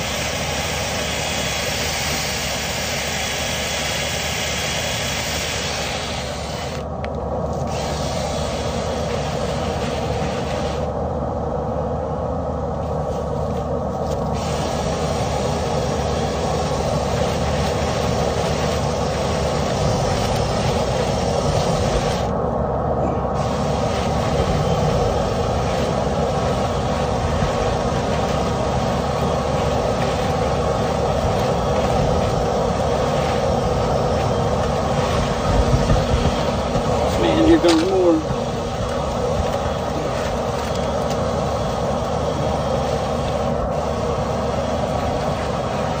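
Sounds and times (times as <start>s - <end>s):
cleaning equipment motor drone: 0.0s - 46.0s.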